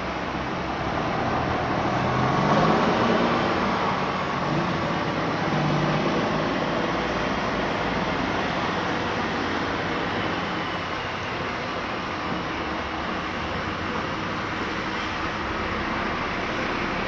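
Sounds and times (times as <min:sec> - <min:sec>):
cars passing: 0:00.0 - 0:17.0
truck engine pulling through: 0:00.0 - 0:17.0.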